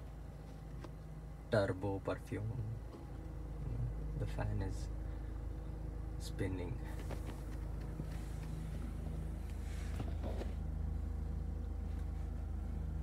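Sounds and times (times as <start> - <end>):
air-conditioning blower: 0.0 - 13.0
car engine idling: 0.0 - 13.0.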